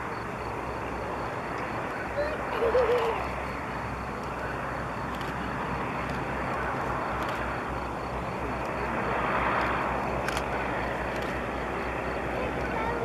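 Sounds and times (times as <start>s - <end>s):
propeller aircraft engines rumbling: 0.0s - 13.0s.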